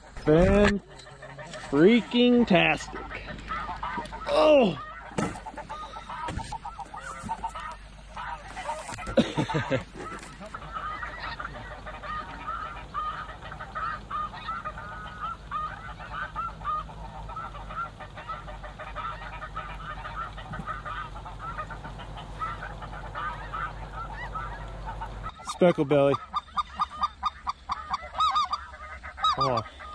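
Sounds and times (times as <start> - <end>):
flock of geese calling: 0.0 - 29.9.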